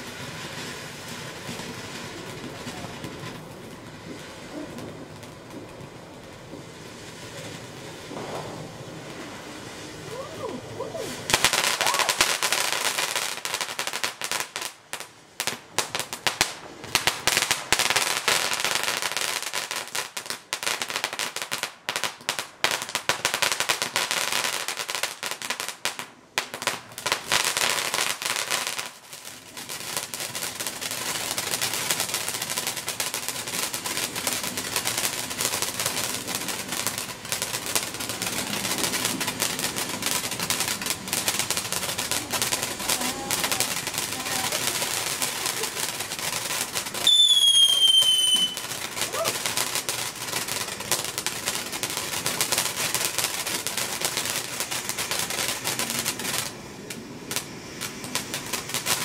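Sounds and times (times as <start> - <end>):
firework fountain hissing and crackling: 0.0 - 59.0.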